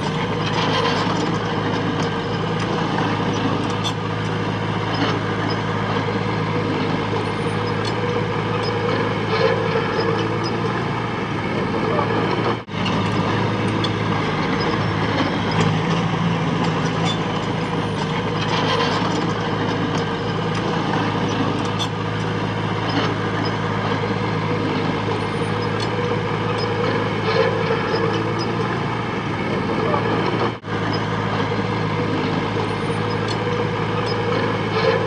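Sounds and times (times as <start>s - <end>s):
heavy diesel machinery engine drone: 0.0s - 35.0s.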